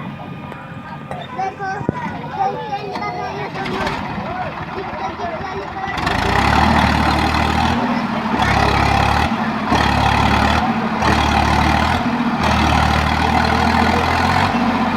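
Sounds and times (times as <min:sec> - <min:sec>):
diesel engine running loud: 0:00.0 - 0:14.9.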